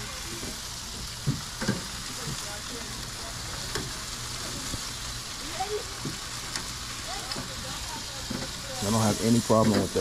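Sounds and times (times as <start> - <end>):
meat sizzling on charcoal grill: 0.0 - 10.0.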